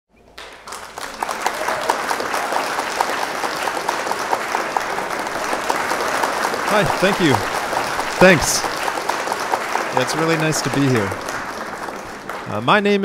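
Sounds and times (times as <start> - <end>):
audience applauding: 0.3 - 13.0.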